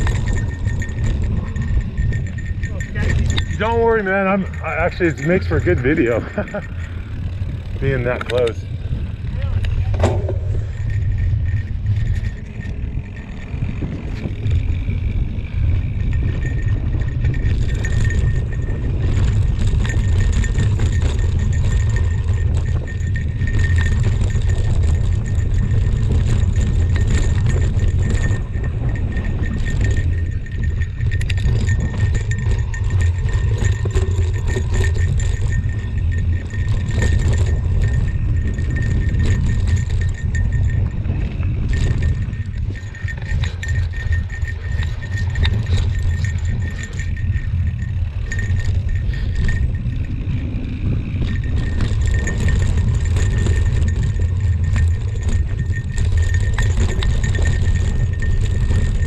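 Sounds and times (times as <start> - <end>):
bike rattling over rough dirt: 0.0 - 59.0
wind rumbling on microphone: 0.0 - 59.0.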